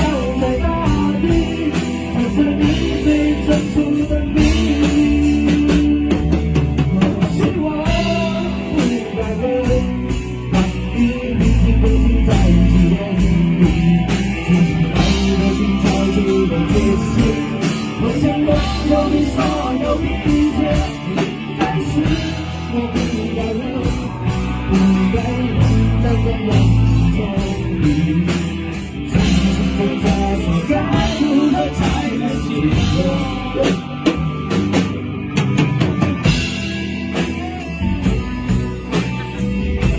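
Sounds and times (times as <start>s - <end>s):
drum kit steady beat: 0.0s - 39.9s
rock band playing: 0.0s - 39.9s.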